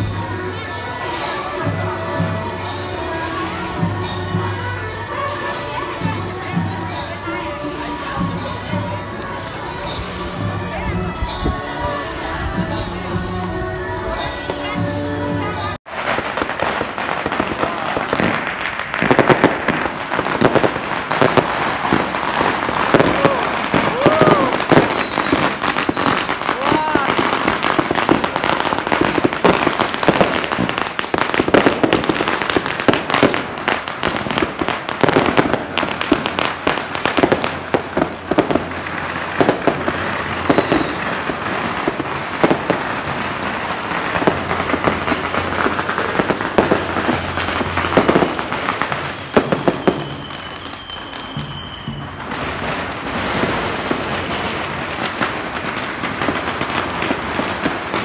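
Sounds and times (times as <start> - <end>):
firecrackers banging: 0.0 - 58.0.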